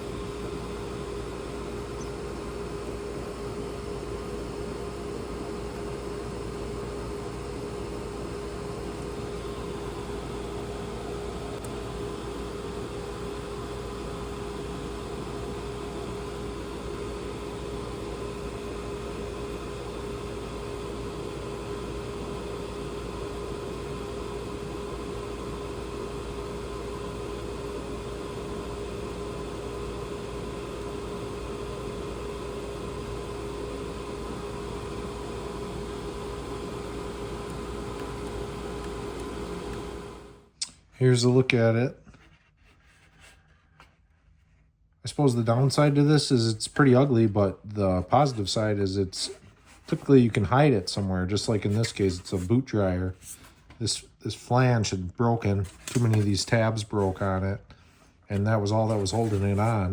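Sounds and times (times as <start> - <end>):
steady hum with mid-pitched tone: 0.0 - 59.9.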